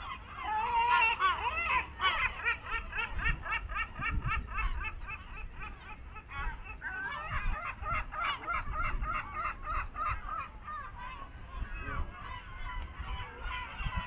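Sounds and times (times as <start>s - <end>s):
birds calling harshly: 0.0s - 14.0s.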